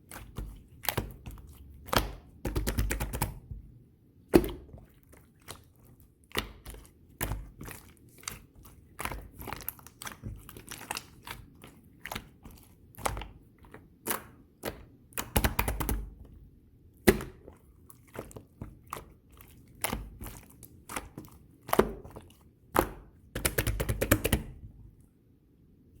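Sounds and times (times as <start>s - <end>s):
slime popping and squishing: 0.0s - 3.5s, 4.3s - 16.2s, 17.0s - 24.5s.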